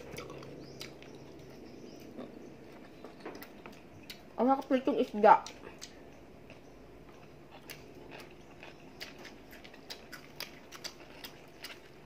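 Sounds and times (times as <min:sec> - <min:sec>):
chewing fried fish: 0:00.0 - 0:12.0.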